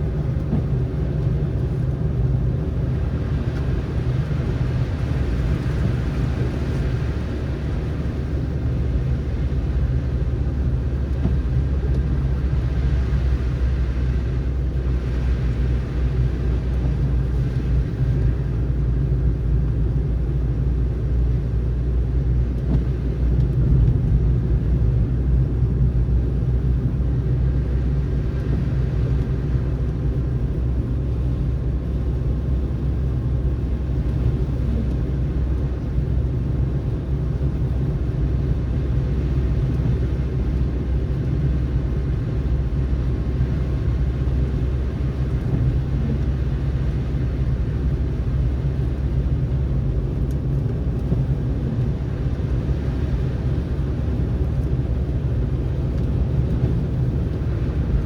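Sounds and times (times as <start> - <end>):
car driving on snowy road: 0.0 - 58.0.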